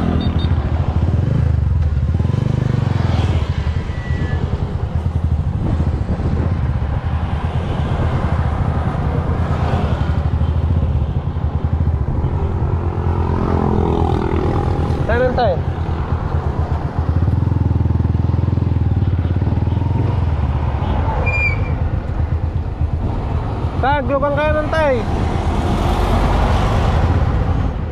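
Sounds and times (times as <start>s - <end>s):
road and traffic noise: 0.0s - 27.9s.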